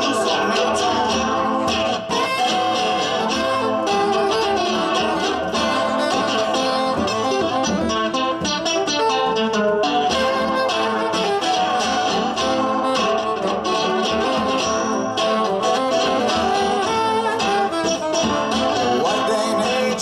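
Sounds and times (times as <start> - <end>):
live band playing instrumental: 0.0 - 20.0
strummed guitar: 0.0 - 20.0.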